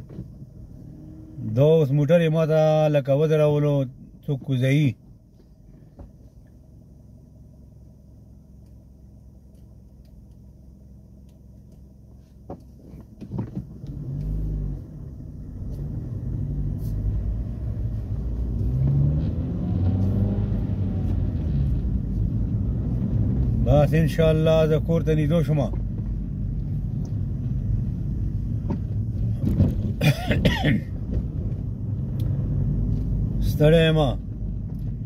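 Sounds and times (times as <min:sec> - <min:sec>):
car engine idling and accelerating: 0:00.0 - 0:35.0.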